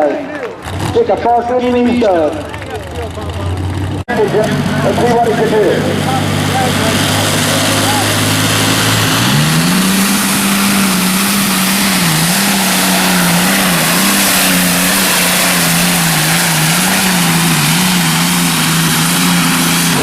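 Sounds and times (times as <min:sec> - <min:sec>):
tractor engine at full throttle: 0:00.0 - 0:20.0.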